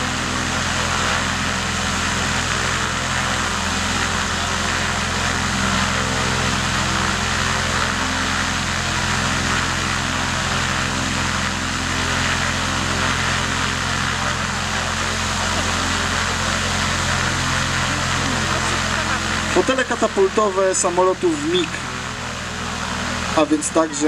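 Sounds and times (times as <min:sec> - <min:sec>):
light aircraft engine idling: 0:00.0 - 0:24.0.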